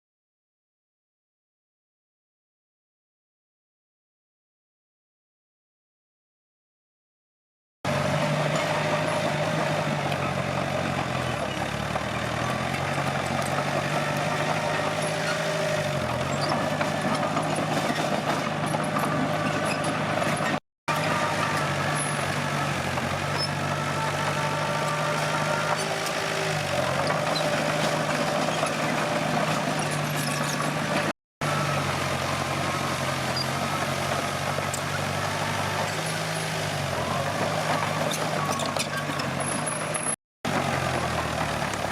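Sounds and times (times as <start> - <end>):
bulldozer diesel engine running: 7.9 - 41.9.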